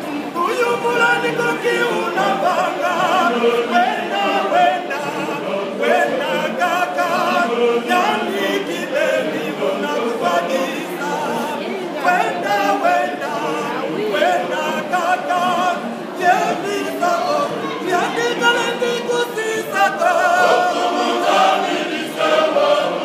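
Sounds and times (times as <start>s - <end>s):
men's choir singing a cappella: 0.0s - 23.0s.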